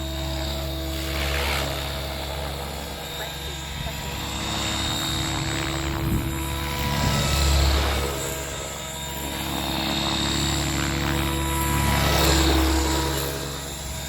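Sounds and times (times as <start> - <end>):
rc helicopter rotor and motor: 0.0 - 14.0.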